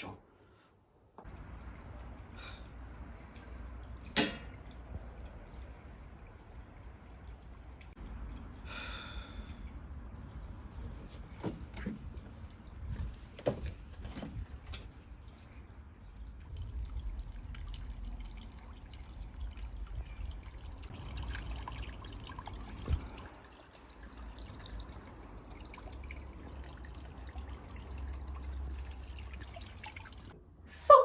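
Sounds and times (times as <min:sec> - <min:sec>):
liquid trickling and dripping: 0:01.2 - 0:30.4.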